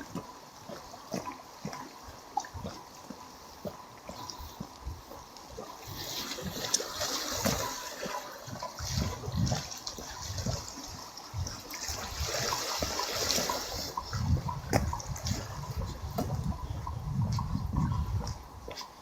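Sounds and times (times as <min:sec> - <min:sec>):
small waves lapping at shore: 0:00.0 - 0:19.0.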